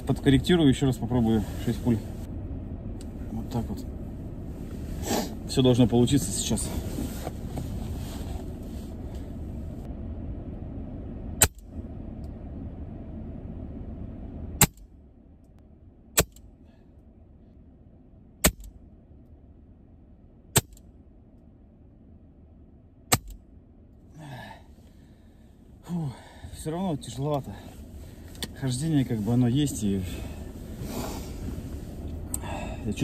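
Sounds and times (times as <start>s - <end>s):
low background rumble: 0.0s - 33.0s.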